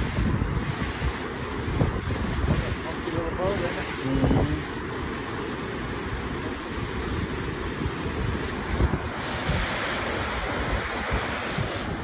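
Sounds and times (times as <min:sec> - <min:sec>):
wind buffeting microphone: 0:00.0 - 0:05.3, 0:05.9 - 0:12.0
water pouring over spillway: 0:00.0 - 0:12.0.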